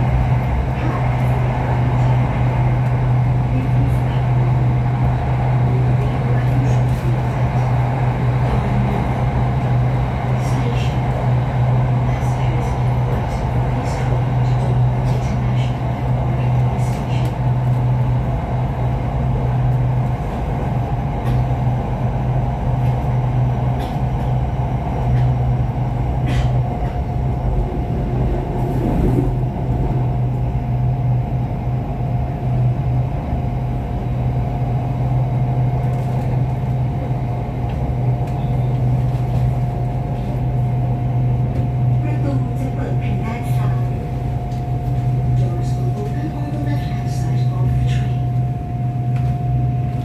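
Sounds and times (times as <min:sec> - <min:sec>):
constant higher hum: 0:00.0 - 0:50.0
train low rumble: 0:00.0 - 0:50.0.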